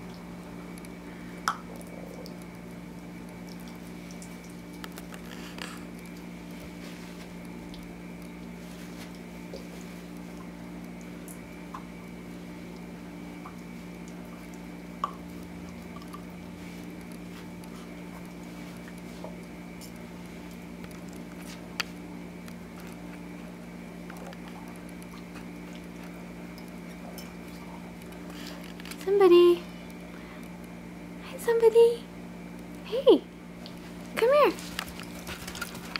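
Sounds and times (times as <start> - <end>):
low electrical hum: 0.0 - 35.9.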